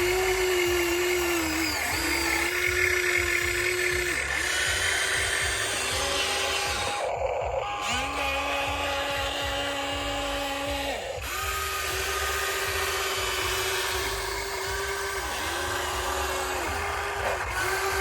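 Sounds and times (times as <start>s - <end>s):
electric motor and pump whining: 0.0s - 18.0s.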